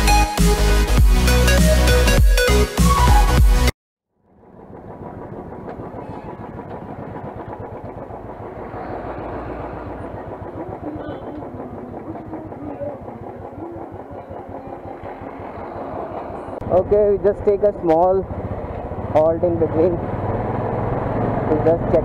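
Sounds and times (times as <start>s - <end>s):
motorcycle engine running: 4.2s - 22.0s.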